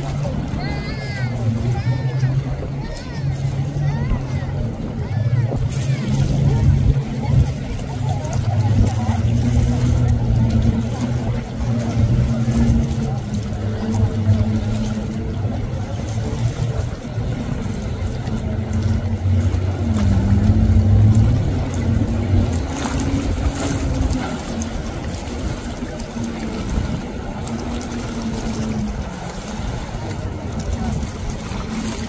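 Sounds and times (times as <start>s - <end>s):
jet ski engine humming: 0.0s - 32.0s.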